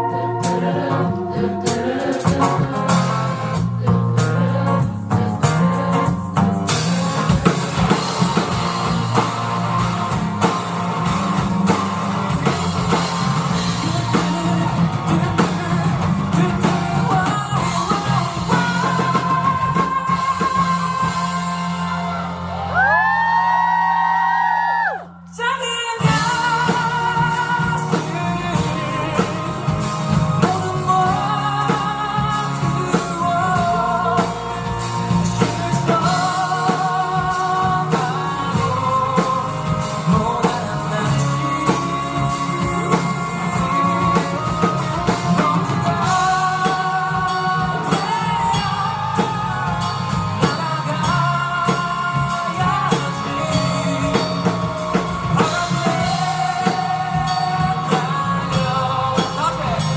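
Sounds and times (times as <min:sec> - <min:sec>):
steady drum beat: 0:00.0 - 0:24.1, 0:26.0 - 0:59.9
bass: 0:00.0 - 0:59.9
guitar: 0:00.0 - 0:59.9.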